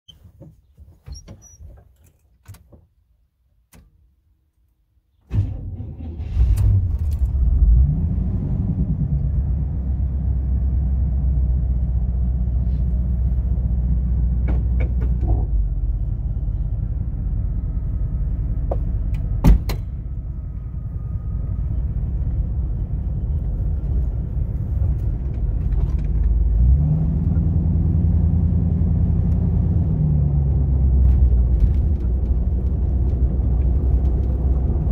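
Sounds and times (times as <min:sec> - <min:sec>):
van engine starting and idling: 0:05.2 - 0:34.9.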